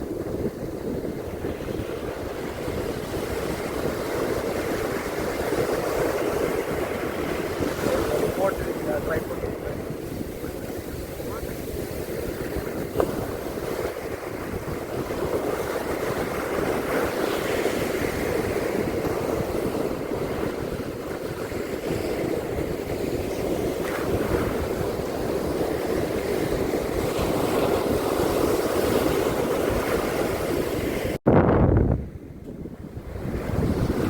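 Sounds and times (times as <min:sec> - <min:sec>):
ocean surf washing on beach: 0:00.0 - 0:31.2, 0:32.0 - 0:34.0
wind on microphone: 0:00.0 - 0:34.0.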